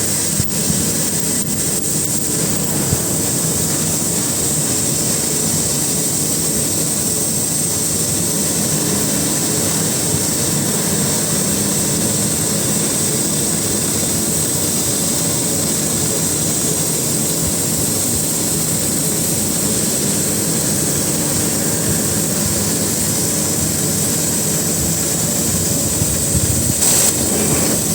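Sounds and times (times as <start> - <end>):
cutting torch roaring and hissing: 0.0 - 27.9.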